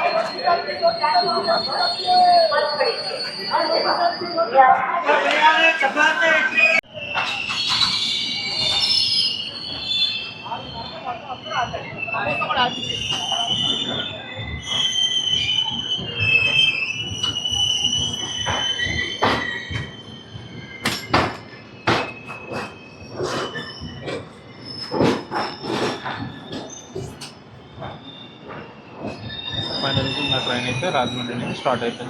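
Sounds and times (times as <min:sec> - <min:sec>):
train wheels squealing on rails: 0:00.0 - 0:32.0.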